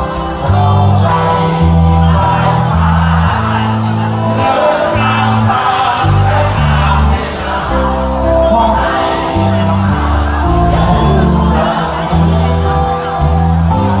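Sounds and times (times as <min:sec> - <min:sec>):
lead vocal singing: 0:00.0 - 0:14.0
live rock band playing: 0:00.0 - 0:14.0.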